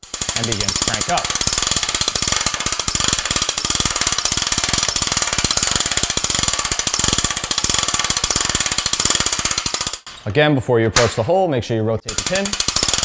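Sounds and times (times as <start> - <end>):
winch ratchet clicking: 0.0 - 10.2, 12.1 - 13.0.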